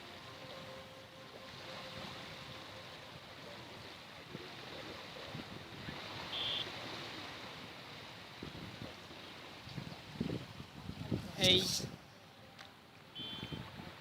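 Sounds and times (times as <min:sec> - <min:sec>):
waves breaking on a beach: 0:00.0 - 0:14.0.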